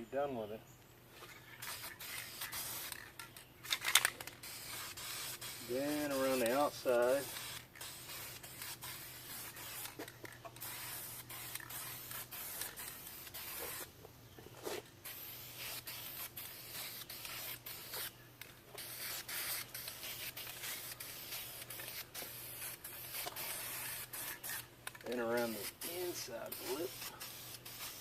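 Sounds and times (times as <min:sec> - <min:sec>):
spray paint can hissing: 0:01.6 - 0:13.9, 0:15.0 - 0:28.0.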